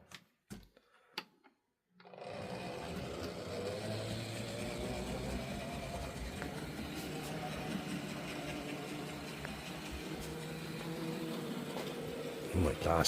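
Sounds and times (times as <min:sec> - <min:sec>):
model train motor whirring: 0:02.0 - 0:13.0.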